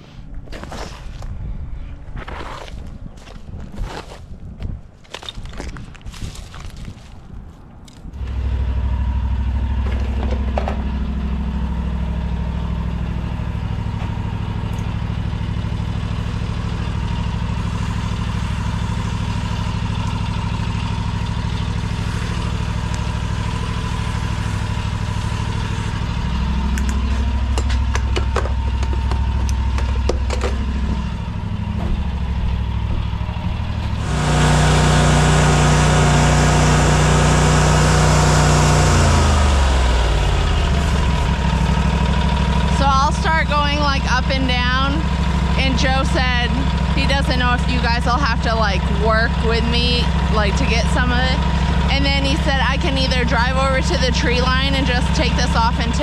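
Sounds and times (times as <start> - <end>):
engine running: 7.8 - 56.0
hissy high engine running: 8.2 - 56.0.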